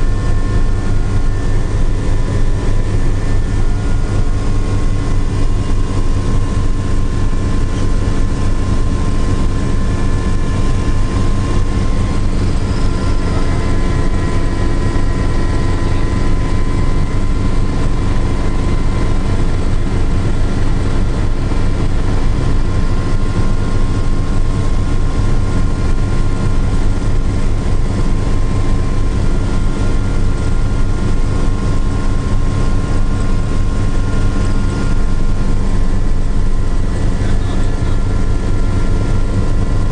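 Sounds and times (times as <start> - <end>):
helicopter engine and rotor drone: 0.0 - 39.9
high turbine whine: 0.0 - 39.9.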